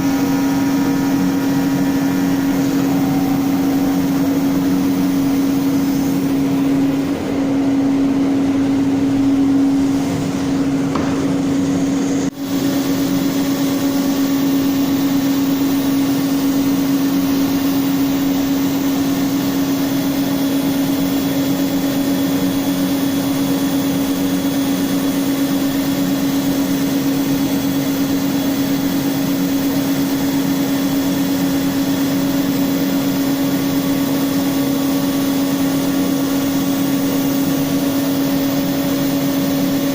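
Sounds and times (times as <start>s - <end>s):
router spindle high hum: 0.0s - 39.9s.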